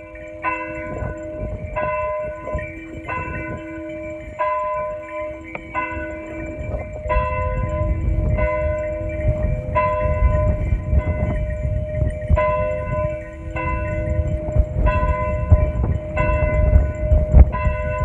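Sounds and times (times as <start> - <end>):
church bell tolling: 0.0 - 18.0.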